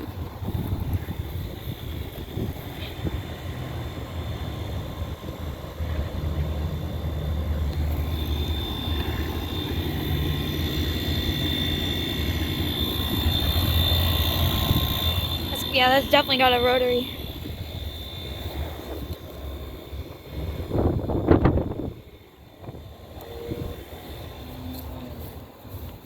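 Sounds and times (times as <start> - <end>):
low compressor hum: 0.0 - 26.0
thin high whine: 0.0 - 26.0.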